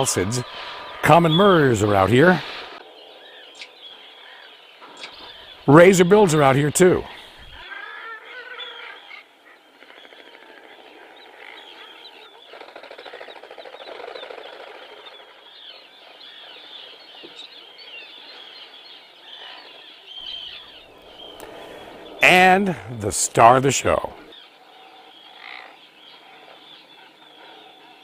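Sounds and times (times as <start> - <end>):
terns calling: 0.0 - 28.0.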